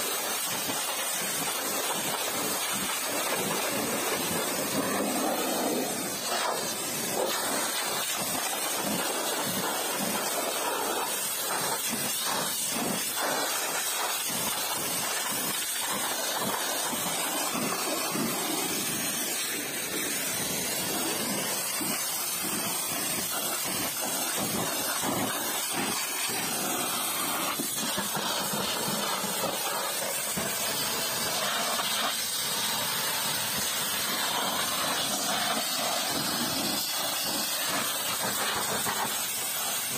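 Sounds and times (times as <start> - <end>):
pressure washer water jet spraying: 0.0 - 39.9.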